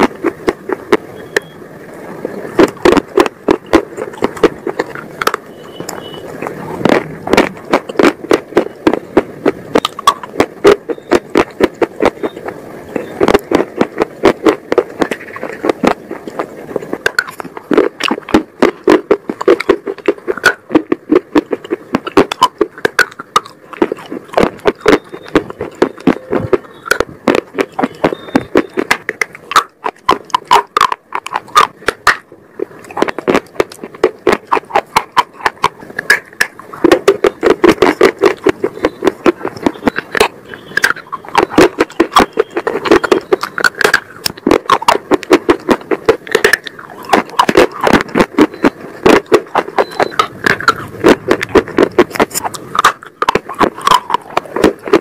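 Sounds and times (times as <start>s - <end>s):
crunching brittle sticks: 0.0s - 1.6s, 2.2s - 55.0s.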